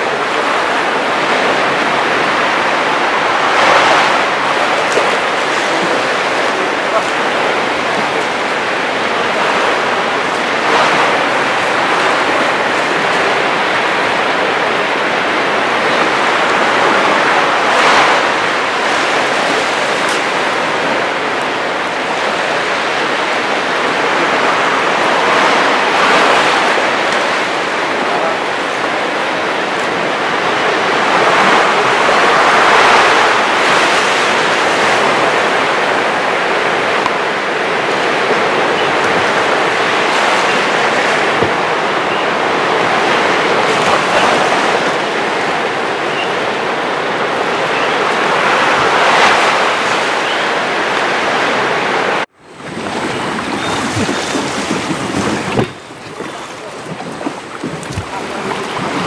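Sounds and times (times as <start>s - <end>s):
water rushing underwater: 0.0s - 59.0s.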